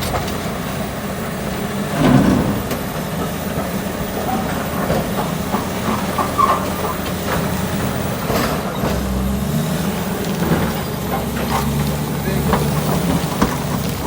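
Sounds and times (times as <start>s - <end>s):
bulldozer diesel engine: 0.0s - 14.0s.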